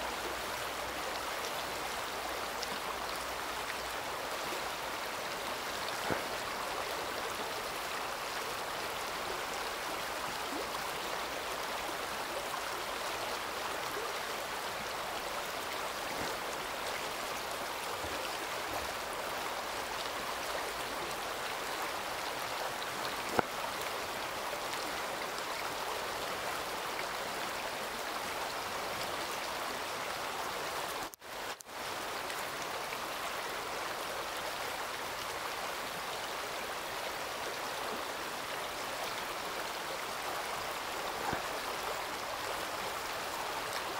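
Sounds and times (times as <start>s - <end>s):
stream rushing: 0.0s - 43.9s.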